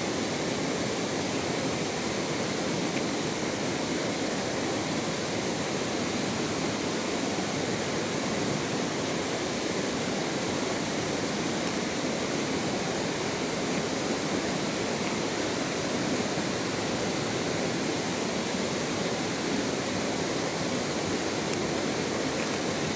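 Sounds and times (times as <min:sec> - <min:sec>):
water rushing in a stream: 0:00.0 - 0:22.9.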